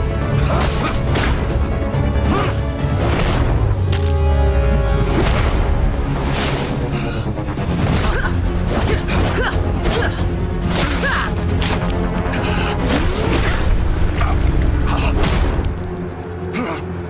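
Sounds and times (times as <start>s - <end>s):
game soundtrack music: 0.0s - 17.0s.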